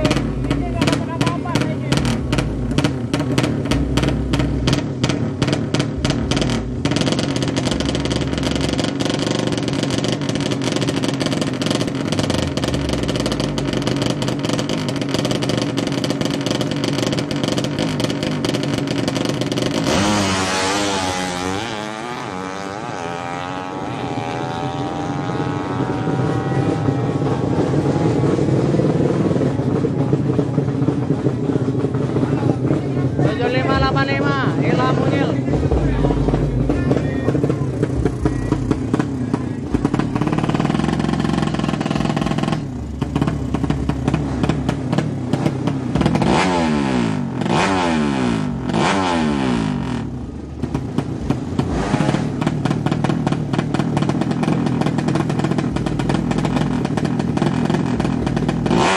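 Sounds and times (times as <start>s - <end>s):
motorbike engine revving: 0.0s - 58.9s.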